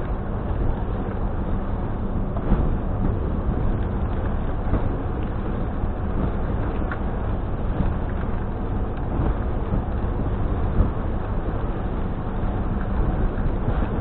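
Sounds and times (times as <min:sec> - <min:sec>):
ship engine rumble: 0:00.0 - 0:14.0
wind: 0:00.0 - 0:14.0.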